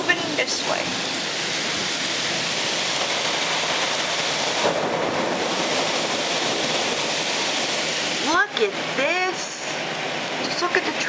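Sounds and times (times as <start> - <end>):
torrential rain hiss: 0.0 - 11.0.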